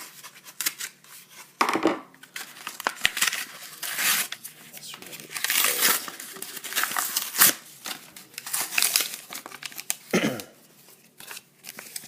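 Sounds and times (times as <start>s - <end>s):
packaging crinkling and tearing: 0.0s - 1.4s, 2.2s - 12.0s.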